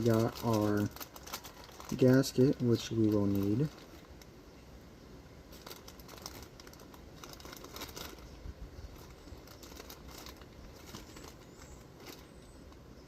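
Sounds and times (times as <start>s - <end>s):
packaging crinkling: 0.0s - 4.3s, 5.5s - 12.8s.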